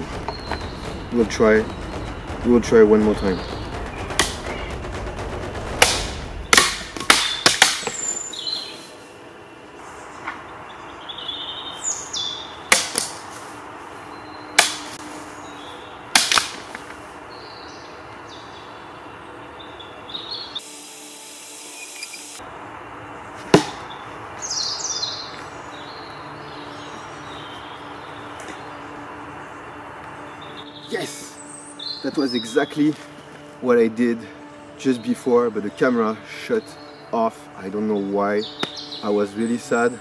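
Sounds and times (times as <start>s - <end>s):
birds chirping: 0.0s - 20.8s, 21.6s - 40.0s.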